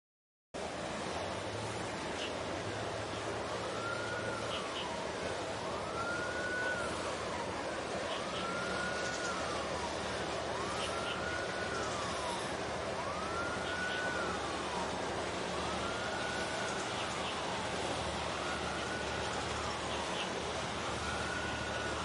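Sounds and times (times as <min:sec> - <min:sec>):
siren wailing: 0:02.3 - 0:22.0.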